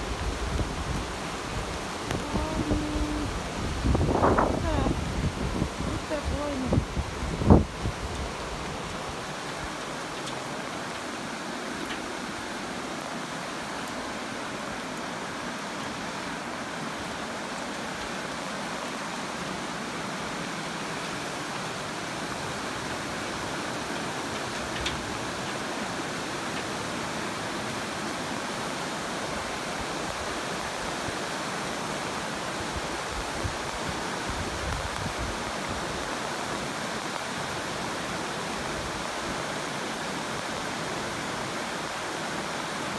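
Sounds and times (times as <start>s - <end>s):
stream flowing: 0.0s - 42.9s.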